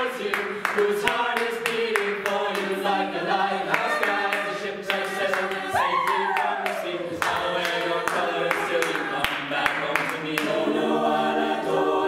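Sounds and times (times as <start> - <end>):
a cappella group singing harmony: 0.0 - 12.0
steady vocal beat: 0.0 - 12.0.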